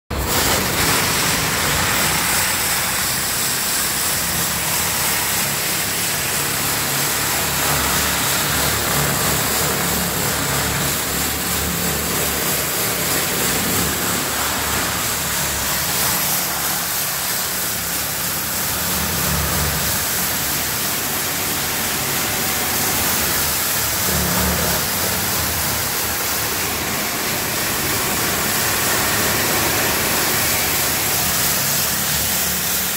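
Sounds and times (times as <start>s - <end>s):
pressure washer spraying metal: 0.1s - 32.9s.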